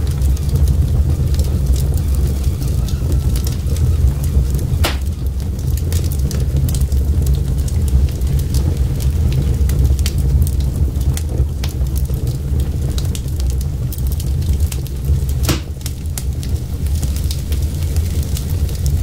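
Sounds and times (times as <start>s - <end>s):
fire rumbling: 0.0s - 19.0s
logs crackling and popping: 0.0s - 19.0s.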